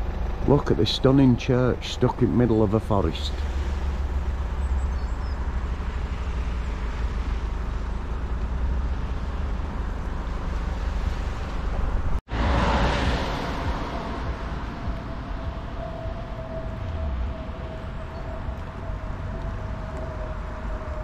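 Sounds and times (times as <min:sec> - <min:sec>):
road and traffic noise: 0:00.0 - 0:21.0
vehicle road noise rumble: 0:00.0 - 0:21.0.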